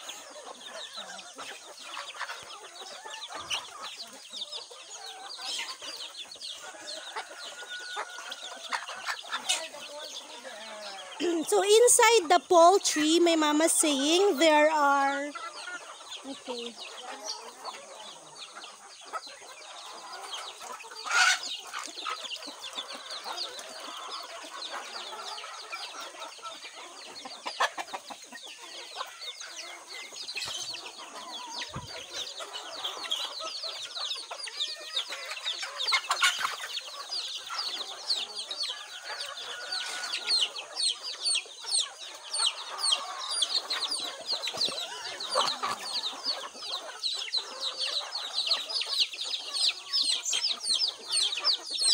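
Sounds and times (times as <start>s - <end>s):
chickens clucking: 0.0s - 51.9s
chicks peeping: 0.0s - 51.9s.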